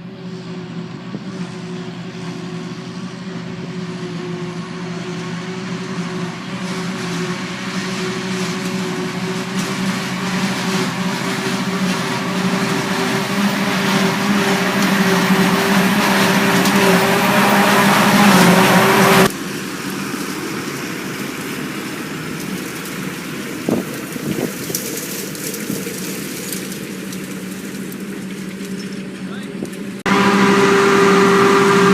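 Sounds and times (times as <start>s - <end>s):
heavy farm machinery engines: 0.0s - 31.9s.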